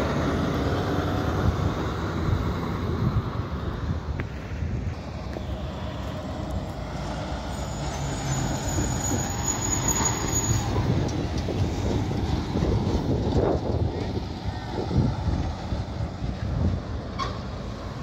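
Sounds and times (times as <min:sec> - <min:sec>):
dump truck driving past: 0:00.0 - 0:04.0, 0:04.9 - 0:18.0.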